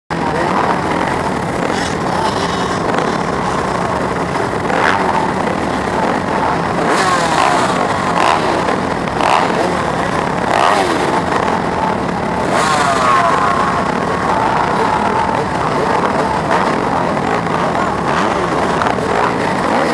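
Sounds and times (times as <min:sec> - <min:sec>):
motocross bike engine revving: 0:00.1 - 0:19.9
other racing motorcycles: 0:00.1 - 0:19.9.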